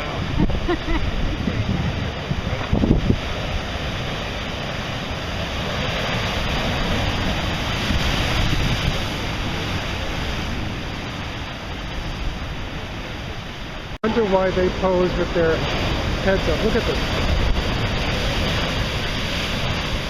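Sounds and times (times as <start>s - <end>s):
ocean surf washing ashore: 0.0s - 20.0s.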